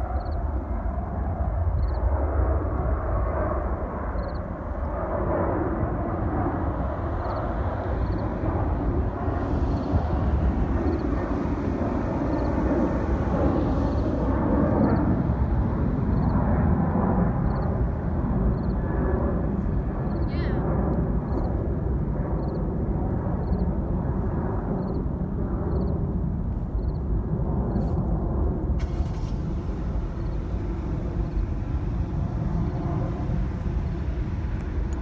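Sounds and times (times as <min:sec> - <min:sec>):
jet airliner roar: 0:00.0 - 0:35.0.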